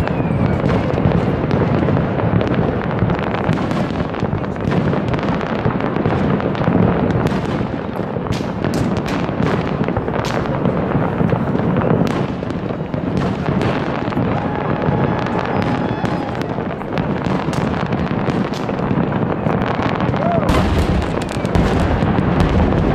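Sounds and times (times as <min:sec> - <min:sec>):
fireworks bursting and crackling: 0:00.0 - 0:22.9.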